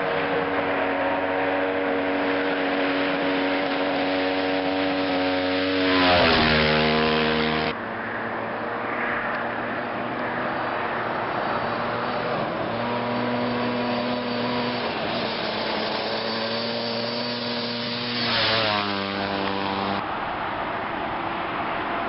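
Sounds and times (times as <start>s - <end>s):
race car engine passing by: 0.0s - 20.1s.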